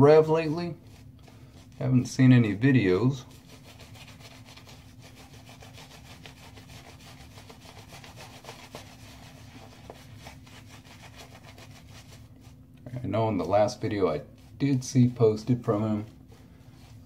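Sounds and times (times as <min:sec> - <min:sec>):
shaving brush scrubbing stubble: 0:00.0 - 0:17.0.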